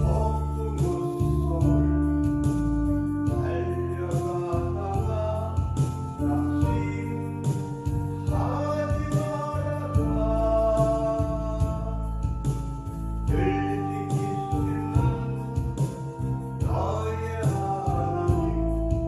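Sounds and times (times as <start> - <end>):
person singing: 0.0 - 19.0
sustained instrumental accompaniment: 0.0 - 19.0.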